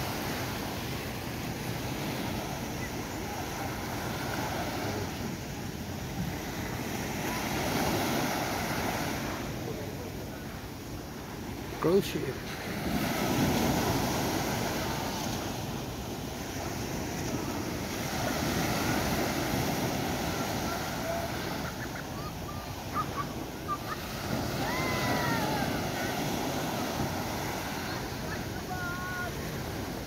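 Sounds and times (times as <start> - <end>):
surf breaking on a beach: 0.0 - 30.0.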